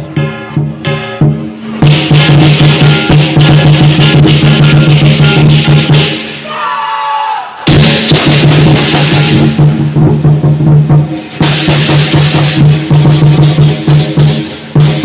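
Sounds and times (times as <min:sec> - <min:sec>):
drums and cymbals: 0:00.0 - 0:06.7, 0:07.6 - 0:15.0.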